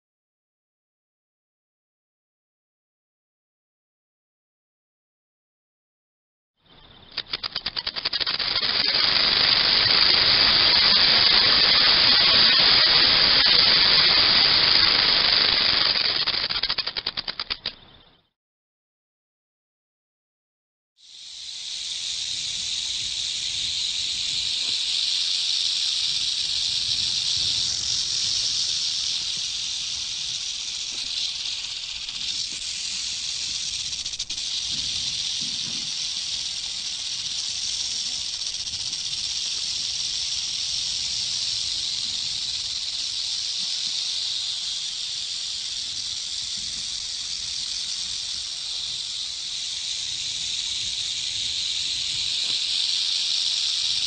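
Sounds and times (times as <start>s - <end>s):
snake hissing: 7.2s - 17.6s, 21.0s - 54.0s.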